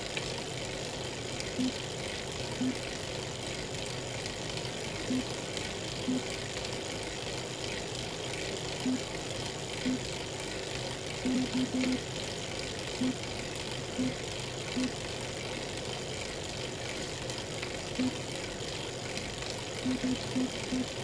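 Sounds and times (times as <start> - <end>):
bike trainer running: 0.0 - 21.0.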